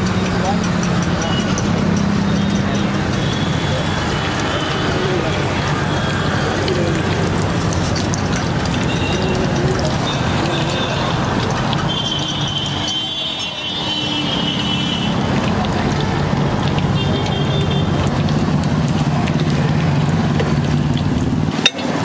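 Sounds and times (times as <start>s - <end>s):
street traffic engine hum: 0.0s - 22.0s.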